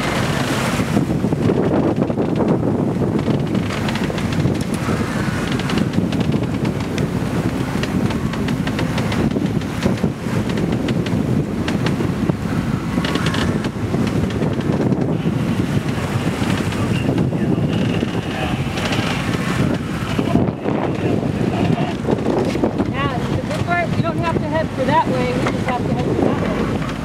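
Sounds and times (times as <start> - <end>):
waves breaking against rocks: 0.0 - 27.0
wind buffeting microphone: 0.0 - 27.0.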